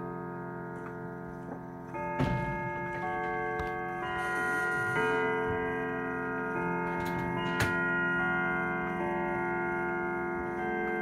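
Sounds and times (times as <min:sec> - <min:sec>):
grandfather clock chiming: 0:00.0 - 0:11.0.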